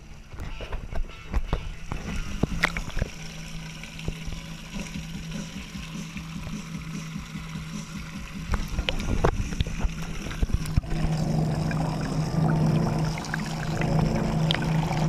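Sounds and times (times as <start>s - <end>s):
low motor hum underwater: 0.0s - 15.0s.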